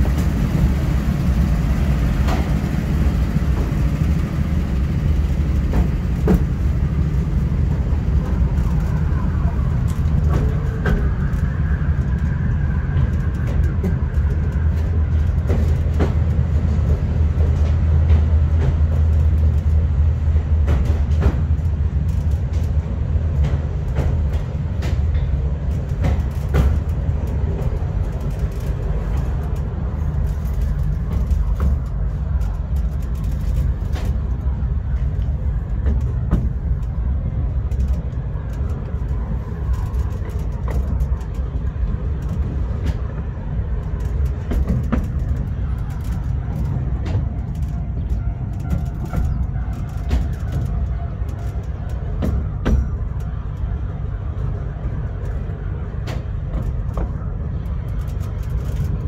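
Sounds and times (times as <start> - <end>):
miniature train rumbling: 0.0 - 59.0
wheels clicking on rails: 0.0 - 59.0.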